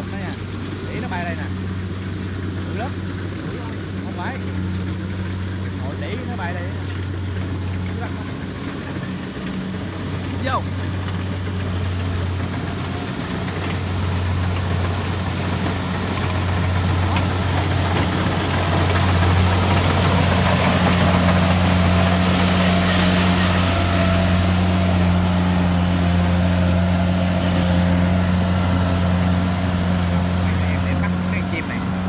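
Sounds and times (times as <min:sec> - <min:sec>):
diesel engine humming: 0:00.0 - 0:32.0.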